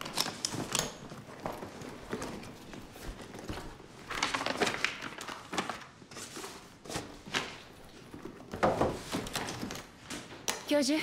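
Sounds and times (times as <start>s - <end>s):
papers and leather rustling: 0.0s - 10.3s.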